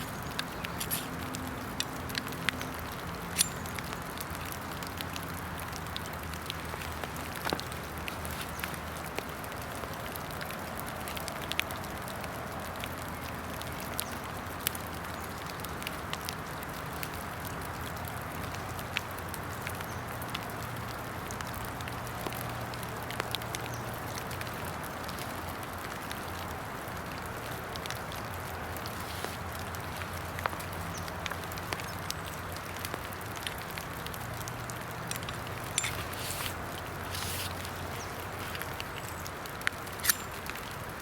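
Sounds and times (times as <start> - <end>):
rain hissing: 0.0 - 41.0
raindrops ticking: 0.0 - 41.0.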